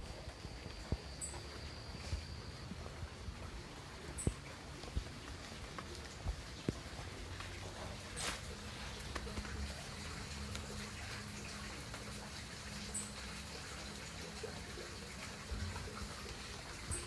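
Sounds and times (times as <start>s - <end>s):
light rain patter: 0.0s - 17.0s.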